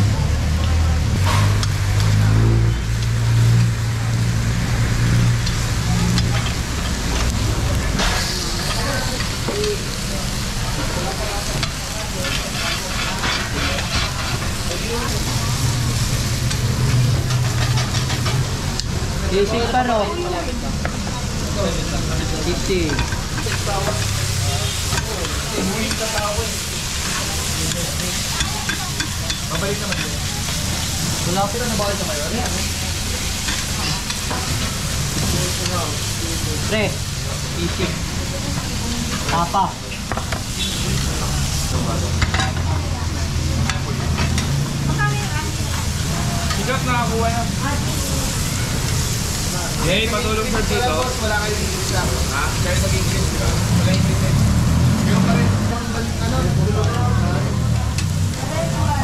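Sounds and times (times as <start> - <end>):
meat sizzling and crackling: 0.1 - 59.0.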